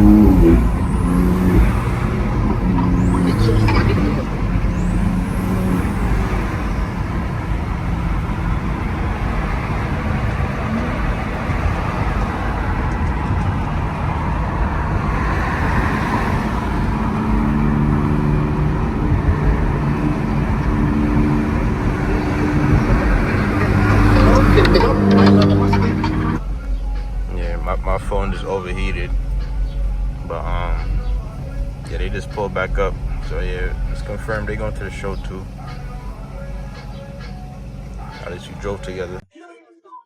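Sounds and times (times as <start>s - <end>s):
traffic road and engine noise: 0.0s - 39.3s.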